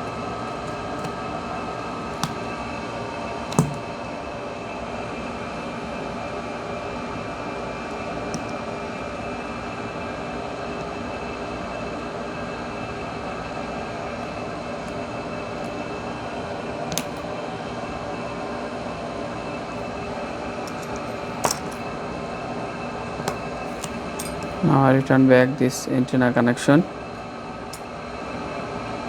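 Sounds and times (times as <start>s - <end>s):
mechanical room hum: 0.0s - 29.0s.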